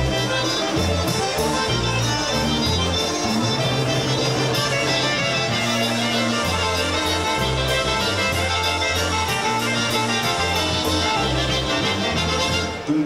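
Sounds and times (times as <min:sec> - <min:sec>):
accordion: 0:00.0 - 0:13.0
bass notes: 0:00.0 - 0:13.0
polka band playing: 0:00.0 - 0:13.0.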